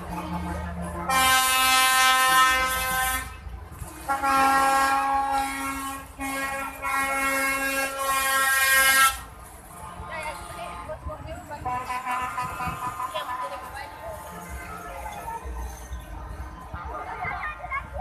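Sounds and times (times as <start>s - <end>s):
truck air horn blasts: 0.1s - 15.4s.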